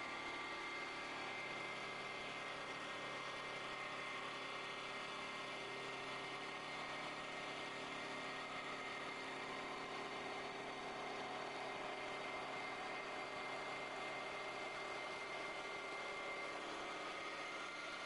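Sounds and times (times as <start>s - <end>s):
wood lathe whirring and whining: 0.0s - 18.0s.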